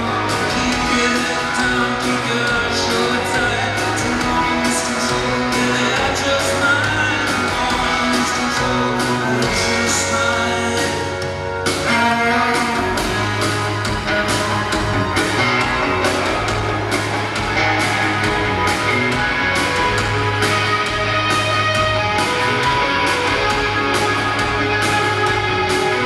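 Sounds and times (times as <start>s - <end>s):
bass guitar: 0.0s - 26.0s
drums with cymbals: 0.0s - 26.0s
electric guitars: 0.0s - 26.0s.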